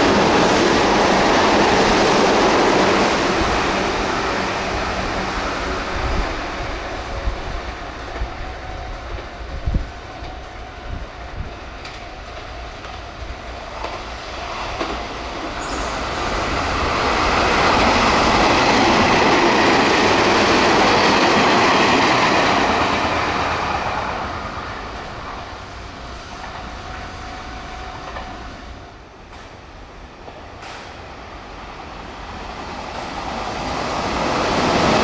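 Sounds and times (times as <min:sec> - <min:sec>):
electric train passing at speed: 0:00.0 - 0:35.0
train wheels on rails: 0:00.0 - 0:35.0.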